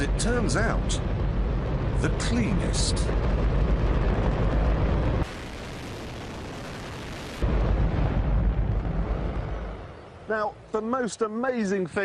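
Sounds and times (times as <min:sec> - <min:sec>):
rocket engine roaring: 0:00.0 - 0:10.3.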